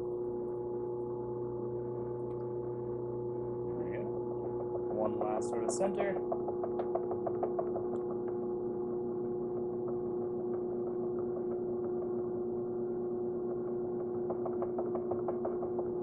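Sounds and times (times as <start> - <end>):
pottery wheel motor hum: 0.0 - 16.0.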